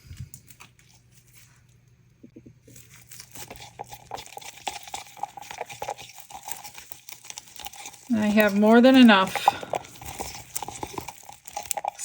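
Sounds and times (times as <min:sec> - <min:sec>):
stick stirring in plastic cup: 0:02.3 - 0:12.0.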